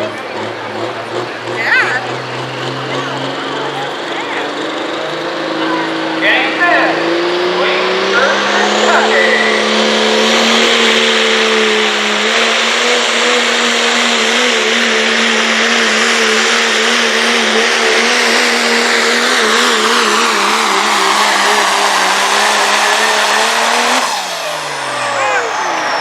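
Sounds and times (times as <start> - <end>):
loud rushing noise: 0.0 - 26.0
truck engine at full throttle: 0.0 - 26.0.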